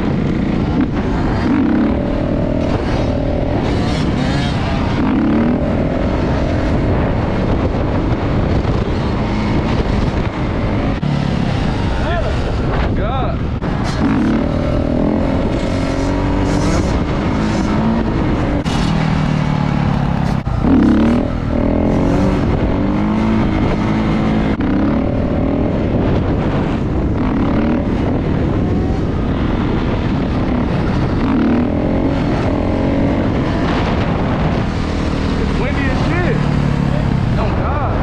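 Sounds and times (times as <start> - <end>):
dirt bike engine revving: 0.0 - 12.8, 13.4 - 38.0.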